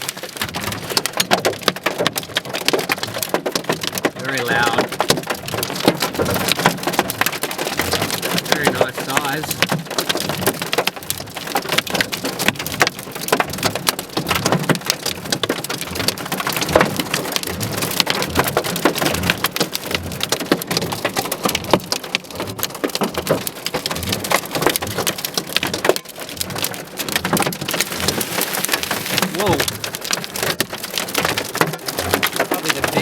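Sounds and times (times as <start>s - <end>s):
hailstones rattling: 0.0s - 33.0s
heavy rain: 0.0s - 33.0s.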